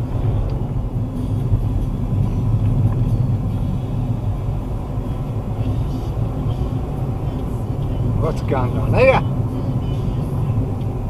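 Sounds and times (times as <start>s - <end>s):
car interior engine and road rumble: 0.0s - 11.0s.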